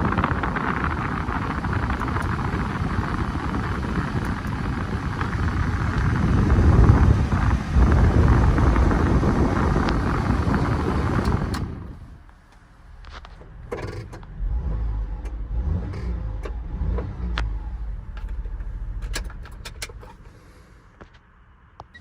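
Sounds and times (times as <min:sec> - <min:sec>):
van engine rumble: 0:00.0 - 0:22.0.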